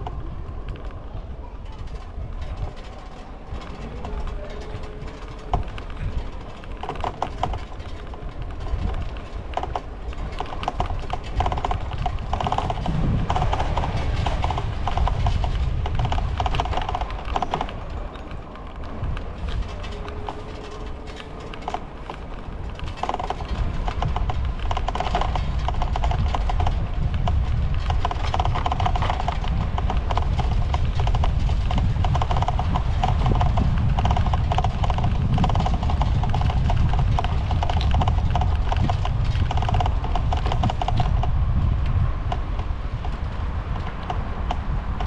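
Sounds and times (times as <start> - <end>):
bicycle clicks and rattles: 0.0 - 45.0
wind rumble on microphone: 0.0 - 45.0.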